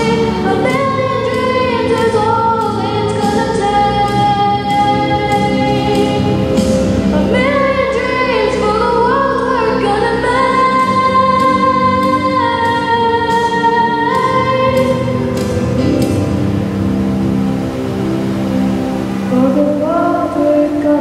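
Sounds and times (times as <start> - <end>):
person singing: 0.0 - 15.5, 19.3 - 21.0
sustained musical accompaniment: 0.0 - 21.0.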